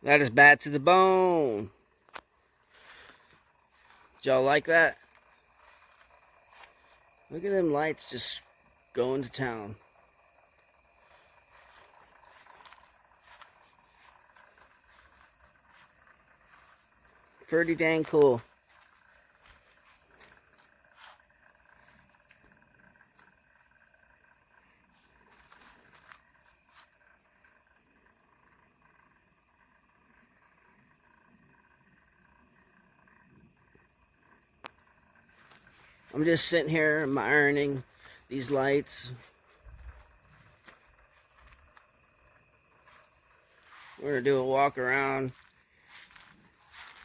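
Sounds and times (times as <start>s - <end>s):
frogs calling: 0.0s - 47.0s
high-pitched insect trill: 0.0s - 47.0s.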